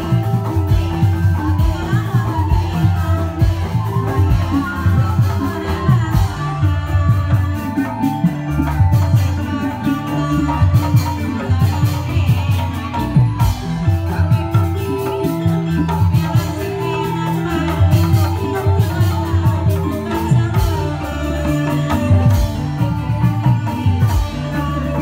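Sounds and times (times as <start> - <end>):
steady drum beat: 0.0 - 25.0.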